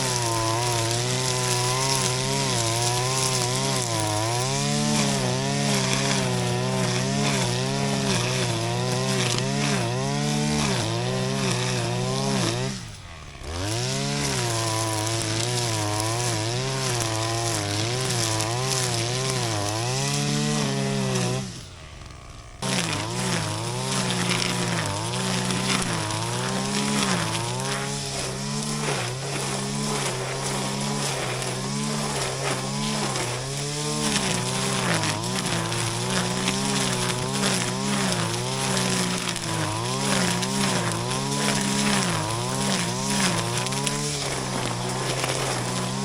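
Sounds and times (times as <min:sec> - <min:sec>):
brush cutter engine cutting grass: 0:00.0 - 0:46.0.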